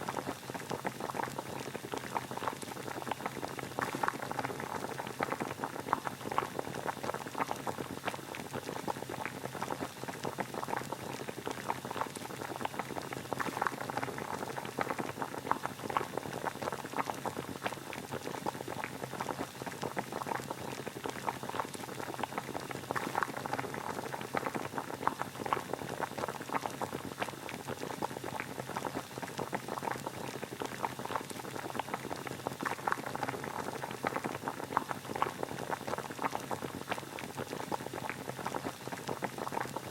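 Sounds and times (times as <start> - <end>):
water boiling: 0.0 - 39.9.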